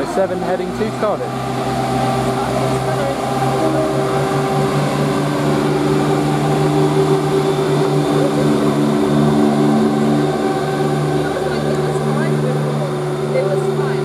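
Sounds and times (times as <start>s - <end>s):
diesel train engines droning: 0.0s - 14.0s.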